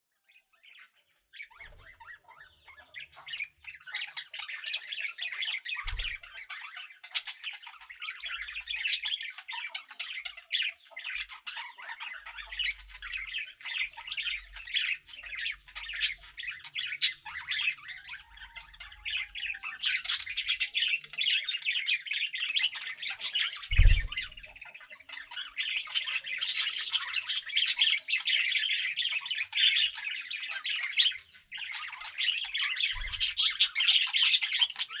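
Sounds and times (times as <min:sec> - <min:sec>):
budgerigars chattering and chirping: 0:00.2 - 0:35.0.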